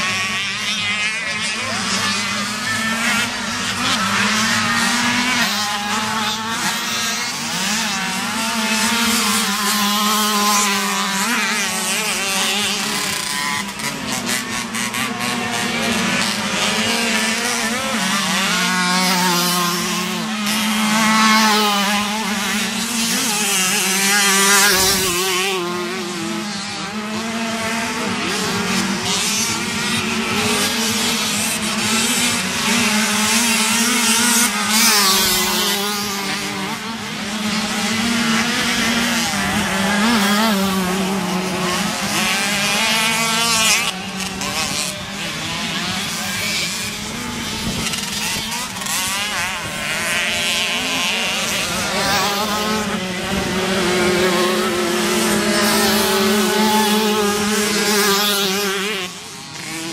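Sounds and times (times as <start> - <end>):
motorcycles revving: 0.0 - 59.9.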